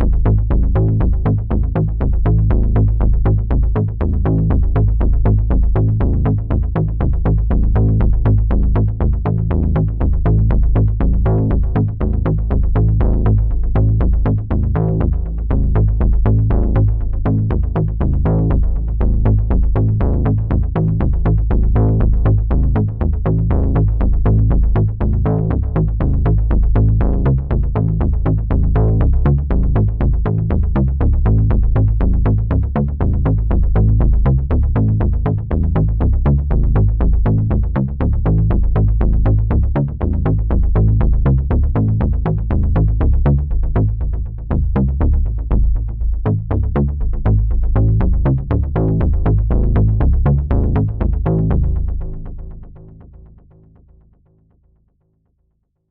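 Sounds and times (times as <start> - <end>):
heavy low rumble: 0.0 - 53.3.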